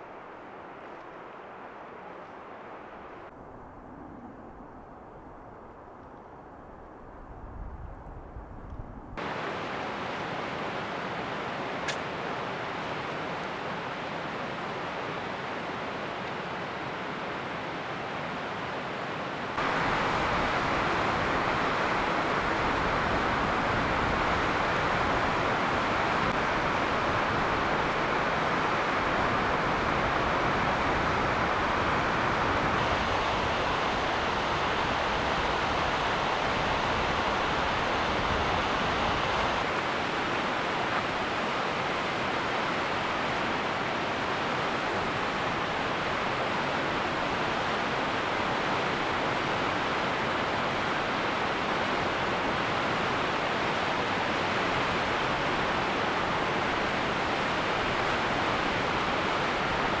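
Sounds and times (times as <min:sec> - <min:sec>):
stream rushing over rocks: 0:09.2 - 1:00.0.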